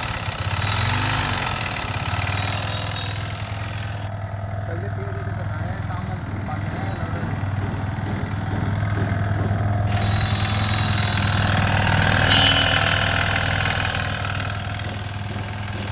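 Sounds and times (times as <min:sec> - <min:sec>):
abnormal engine noise: 0:00.0 - 0:15.9
motorcycle engine running: 0:00.0 - 0:15.9.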